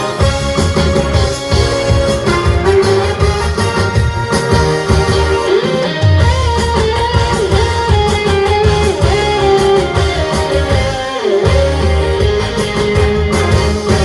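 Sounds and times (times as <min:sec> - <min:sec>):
electric guitar lead melody: 0:00.0 - 0:14.0
upbeat band music: 0:00.0 - 0:14.0.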